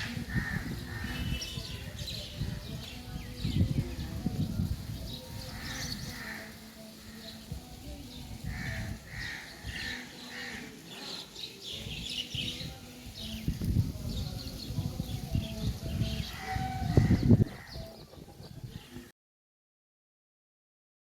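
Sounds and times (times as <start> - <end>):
birds chirping: 0.0 - 19.1.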